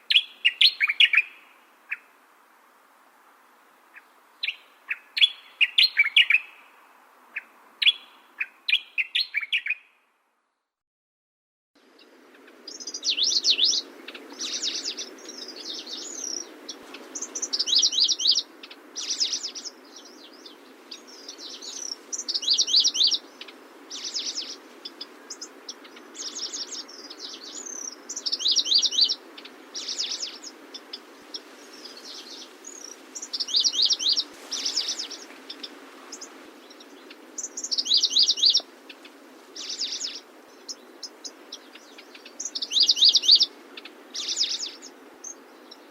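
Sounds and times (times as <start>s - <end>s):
low background hiss: 0.0s - 10.5s, 11.8s - 45.9s
bird trilling song: 0.1s - 2.1s, 3.9s - 6.7s, 7.4s - 10.0s, 12.0s - 45.9s.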